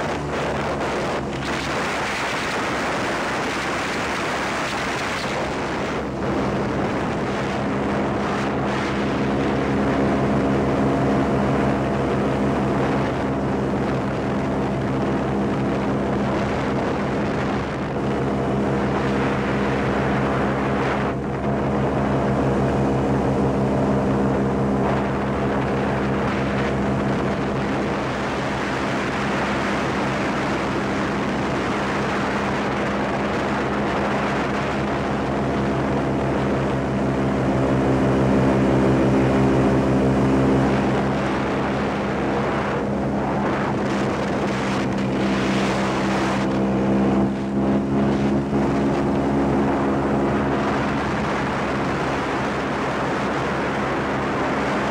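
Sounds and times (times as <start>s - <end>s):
airboat engine and propeller drone: 0.0s - 54.9s.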